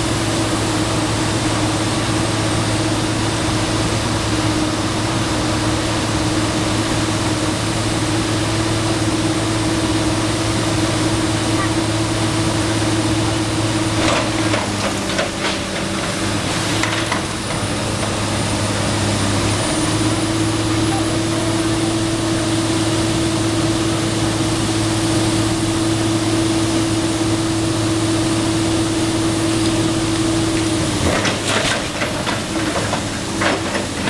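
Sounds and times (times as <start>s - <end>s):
excavator diesel engine droning: 0.0s - 34.0s.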